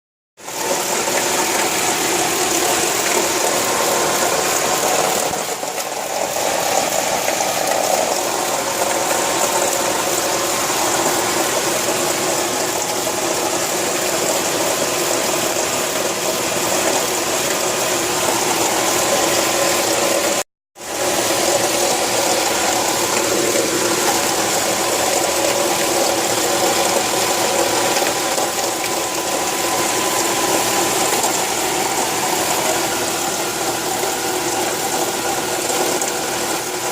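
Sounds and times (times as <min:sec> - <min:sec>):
alternator bearing mechanical noise: 0:00.4 - 0:36.9
engine running: 0:00.4 - 0:36.9.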